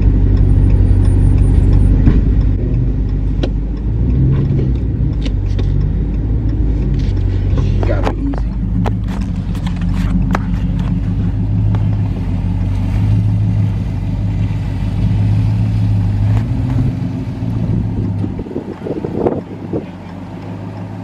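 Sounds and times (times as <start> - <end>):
truck engine pulling under load: 0.0 - 21.0.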